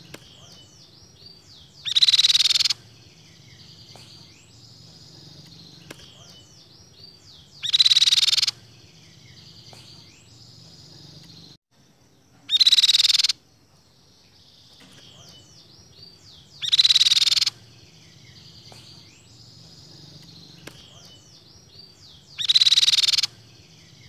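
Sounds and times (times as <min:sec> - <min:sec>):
bird harsh rattling song: 0:00.0 - 0:11.6, 0:12.4 - 0:13.4, 0:14.2 - 0:24.0
soft bird chirps: 0:00.0 - 0:24.0.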